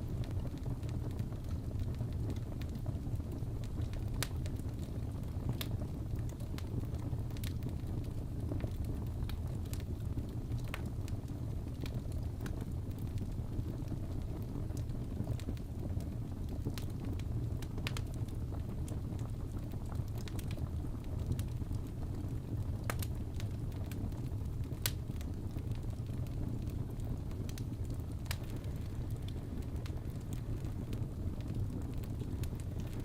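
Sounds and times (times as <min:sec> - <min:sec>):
burning logs rumbling: 0:00.0 - 0:33.0
fire popping and crackling: 0:00.0 - 0:33.0.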